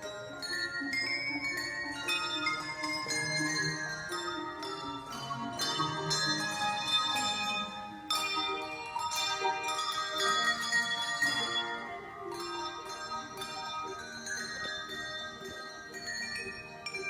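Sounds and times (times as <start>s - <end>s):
handbells ringing a tune: 0.0s - 17.0s.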